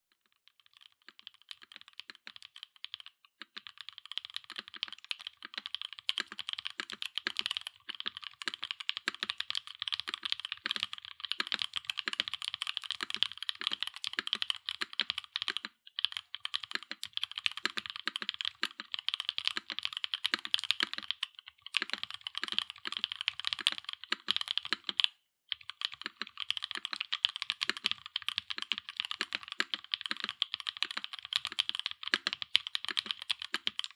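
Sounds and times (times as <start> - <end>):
mechanical keyboard typing: 0.6 - 33.9.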